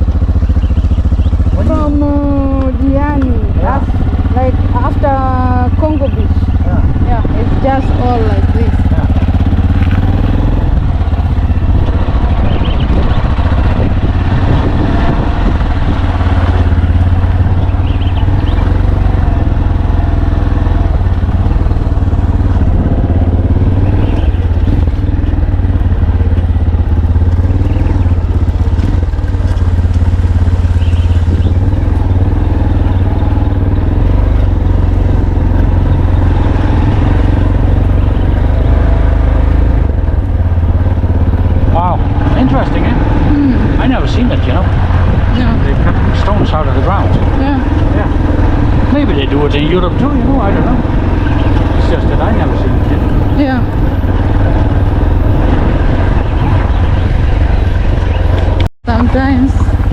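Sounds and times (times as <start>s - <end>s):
road noise: 0.0s - 59.9s
vehicle engine droning: 0.0s - 59.9s.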